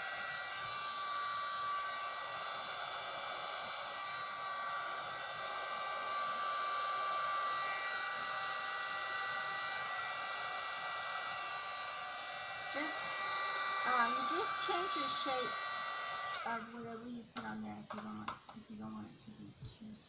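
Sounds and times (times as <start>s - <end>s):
heat gun hissing and whining: 0.0s - 17.0s.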